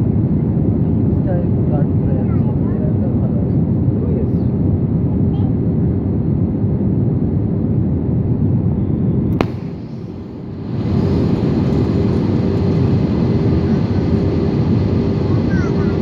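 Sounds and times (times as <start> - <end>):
aircraft cabin engine rumble: 0.0 - 16.0
steady hum: 0.0 - 16.0.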